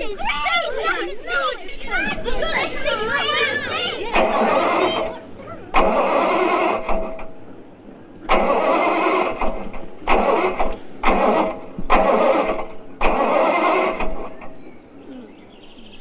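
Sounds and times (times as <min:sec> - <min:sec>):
car starter cranking engine: 0:01.4 - 0:15.0.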